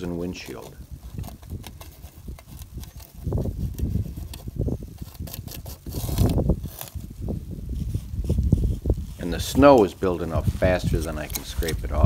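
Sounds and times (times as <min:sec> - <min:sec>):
wind gusting on microphone: 0:00.0 - 0:12.0
palette knife scraping ice: 0:00.3 - 0:07.1, 0:07.7 - 0:12.0.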